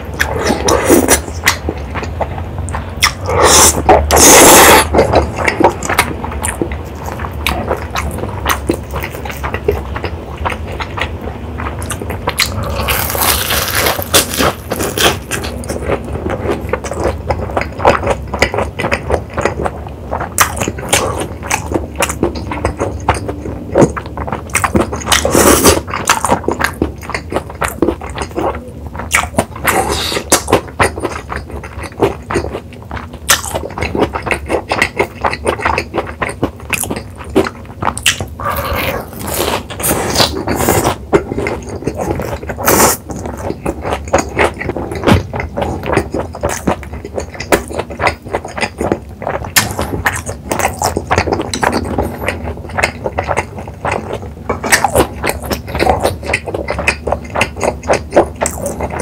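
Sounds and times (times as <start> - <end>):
wet mouth chewing: 0.0 - 59.0.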